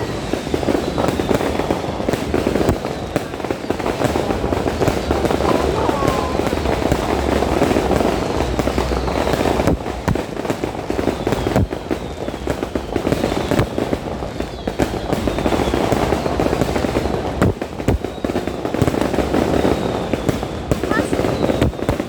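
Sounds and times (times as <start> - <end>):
fireworks crackling and popping: 0.0 - 22.0
fireworks sharp bangs: 0.0 - 22.0.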